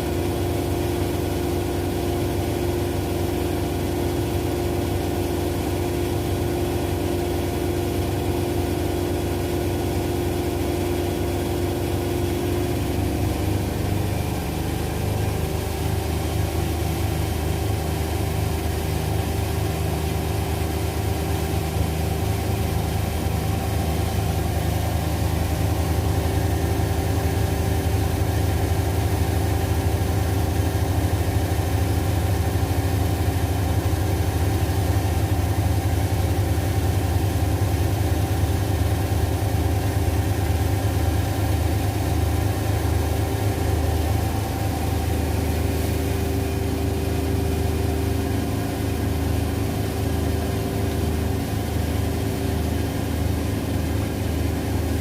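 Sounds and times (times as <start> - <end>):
washing machines spinning: 0.0 - 55.0.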